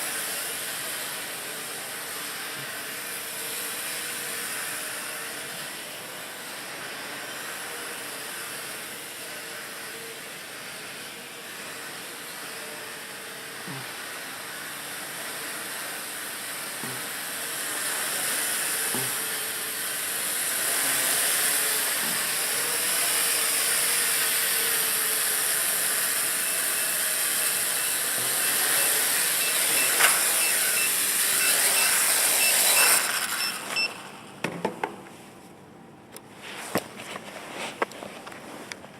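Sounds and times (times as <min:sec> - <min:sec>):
quadcopter propellers whirring: 0:00.0 - 0:34.4.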